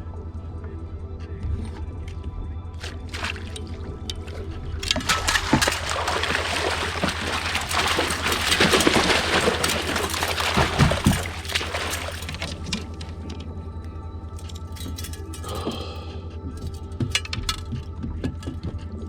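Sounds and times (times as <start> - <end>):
background music with held tones: 0.0 - 19.0
water splashing and sloshing: 2.8 - 19.0.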